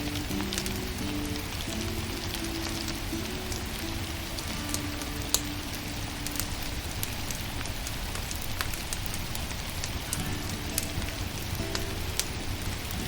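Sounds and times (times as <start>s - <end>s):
firewood fire crackling: 0.0s - 13.0s.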